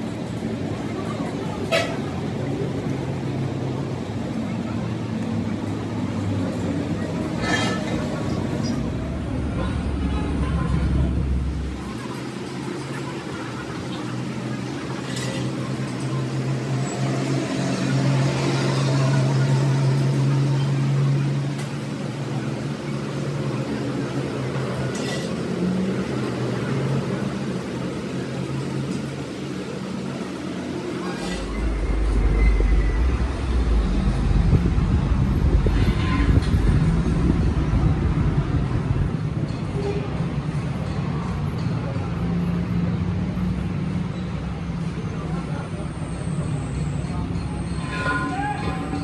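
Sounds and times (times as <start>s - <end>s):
engine hum: 0.0s - 49.0s.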